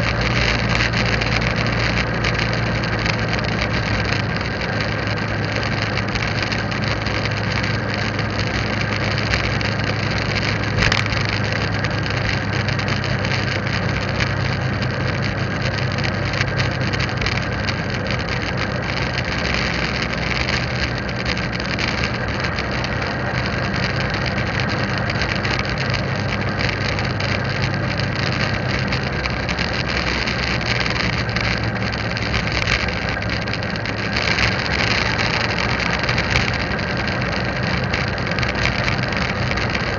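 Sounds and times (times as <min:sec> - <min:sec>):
motorbike engine running: 0:00.0 - 0:39.9
wind and road noise: 0:00.0 - 0:39.9.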